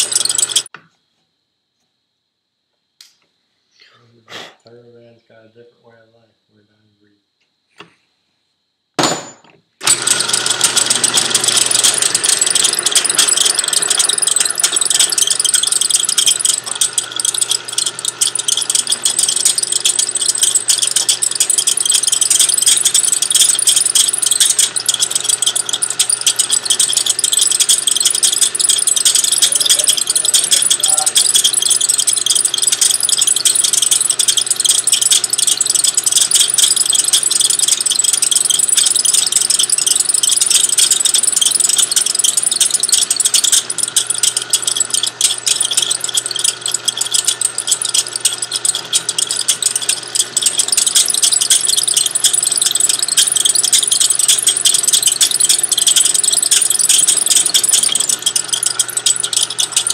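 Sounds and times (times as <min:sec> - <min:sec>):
drill bit cutting metal: 0:00.0 - 0:00.7, 0:09.8 - 0:59.9
drill motor hum: 0:00.0 - 0:00.7, 0:09.8 - 0:59.9.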